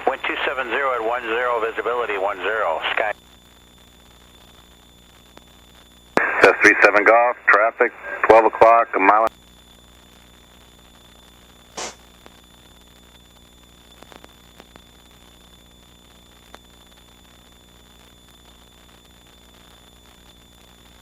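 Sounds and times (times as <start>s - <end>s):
burst of static: 0.0s - 21.0s
radio hiss and hum: 0.0s - 21.0s.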